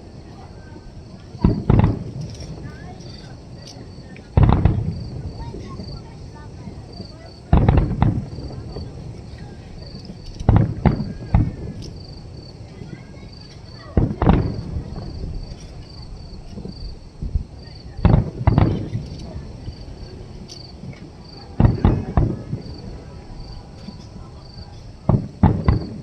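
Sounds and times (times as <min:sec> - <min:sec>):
crickets chirping: 0:00.0 - 0:26.0
firework shells bursting: 0:00.0 - 0:26.0.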